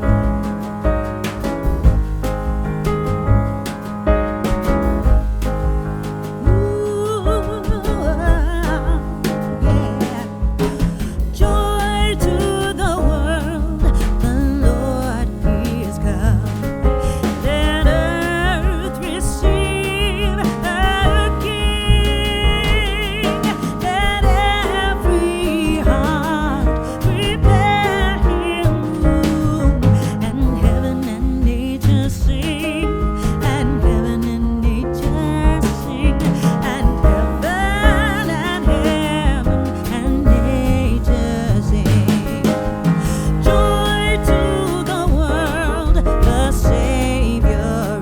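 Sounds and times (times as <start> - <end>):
song with singing over a beat: 6.4 - 48.0.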